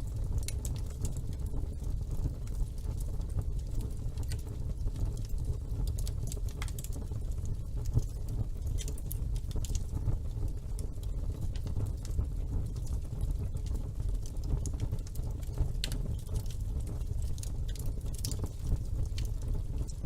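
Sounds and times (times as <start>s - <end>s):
fire crackles and pops: 0.0s - 20.0s
fire flames rumbling: 0.0s - 20.0s.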